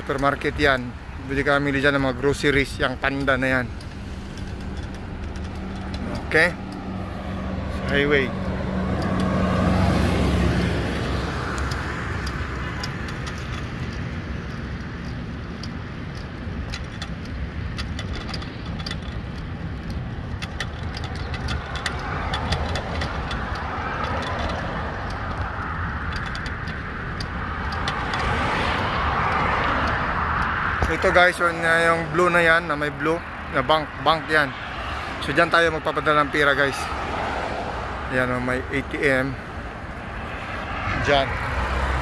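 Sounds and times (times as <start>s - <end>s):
truck engine passing: 0.0s - 15.7s, 19.3s - 42.0s
bicycle clicks and rattles: 0.0s - 42.0s
passing traffic rumble: 0.0s - 42.0s
wind: 0.0s - 42.0s.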